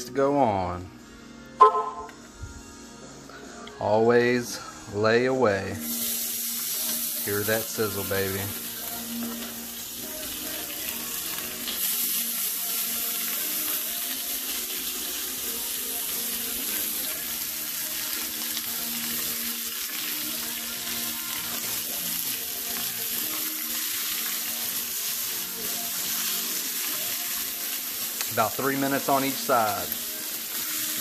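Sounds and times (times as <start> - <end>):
steaks sizzling in a skillet: 5.8 - 31.0.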